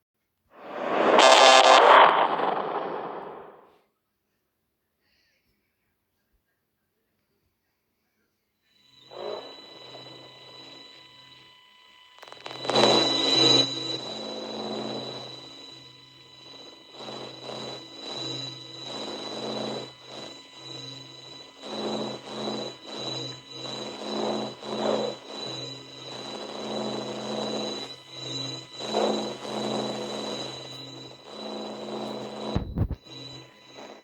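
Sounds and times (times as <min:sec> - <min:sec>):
pulsing electronic drone: 0:00.6 - 0:03.6, 0:08.9 - 0:34.0
steady high whine: 0:00.6 - 0:03.6, 0:08.8 - 0:34.0.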